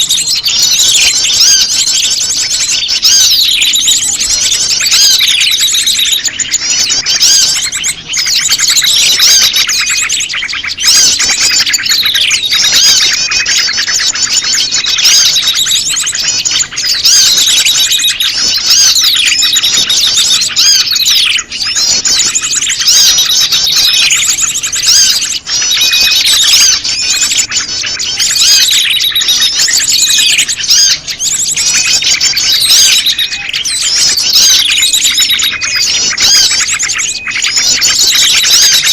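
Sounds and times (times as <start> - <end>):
bird calls: 0.0 - 38.9
songbirds chirping: 0.0 - 38.9.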